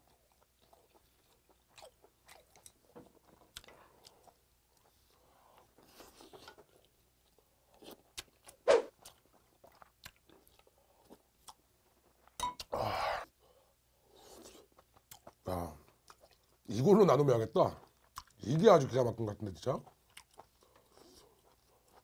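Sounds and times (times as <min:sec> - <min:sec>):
person chewing with wet smacks: 0:00.0 - 0:12.7, 0:14.2 - 0:16.7, 0:17.7 - 0:18.4, 0:19.6 - 0:22.0.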